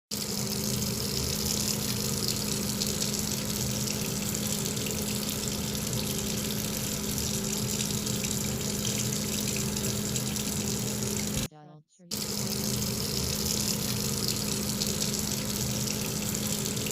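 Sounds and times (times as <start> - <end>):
running water rushing: 0.2 - 11.5, 12.2 - 16.9
low steady hum: 0.2 - 16.9.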